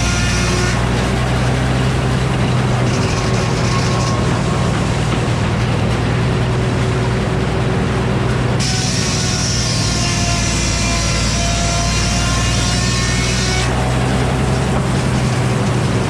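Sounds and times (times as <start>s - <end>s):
sawmill sawing log: 0.0s - 16.0s.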